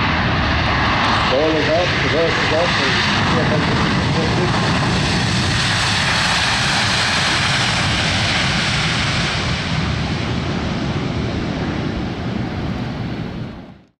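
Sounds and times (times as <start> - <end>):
jet engines roaring in reverse thrust: 0.0 - 13.9.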